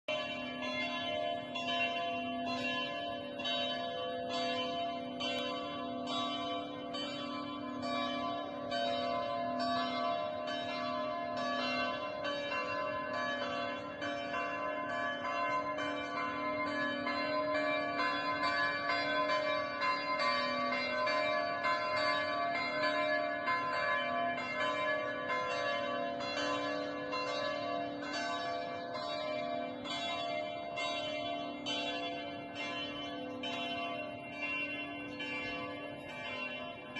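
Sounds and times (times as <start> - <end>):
church bells ringing: 0.1 - 36.9.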